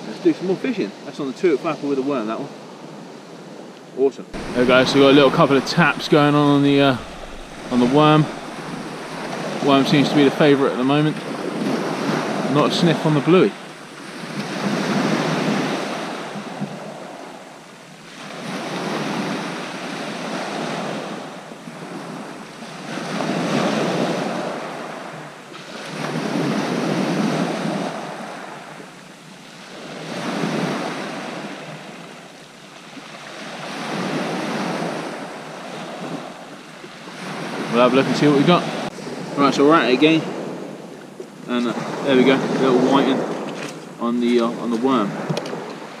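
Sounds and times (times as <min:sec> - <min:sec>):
waves breaking on shingle beach: 0:04.3 - 0:46.0.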